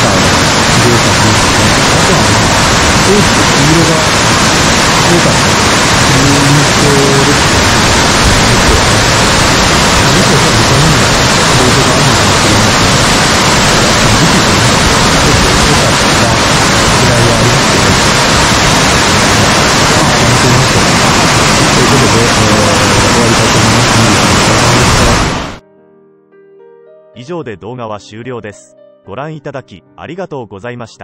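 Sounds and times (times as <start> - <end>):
waterfall cascading down rock: 0.0 - 25.6.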